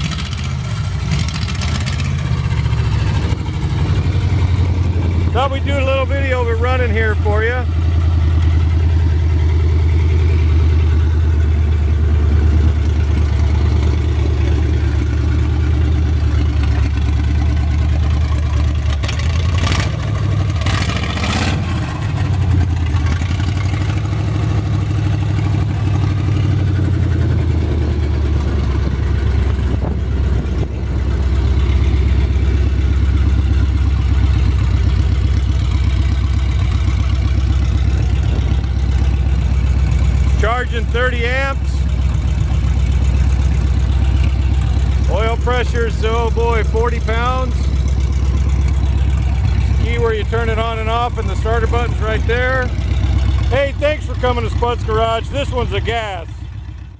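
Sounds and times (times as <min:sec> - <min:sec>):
engine idling through open exhaust: 0:00.0 - 0:56.9.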